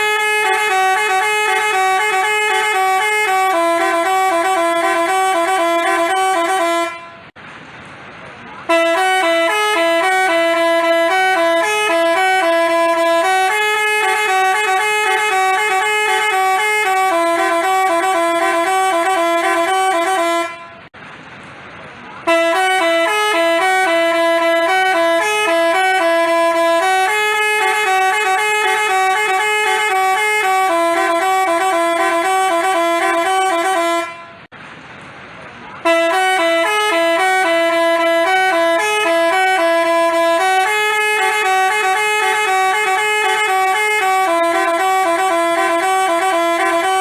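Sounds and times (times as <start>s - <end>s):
musical bus horn melody: 0.0s - 7.4s, 8.6s - 21.0s, 22.2s - 34.5s, 35.8s - 47.0s.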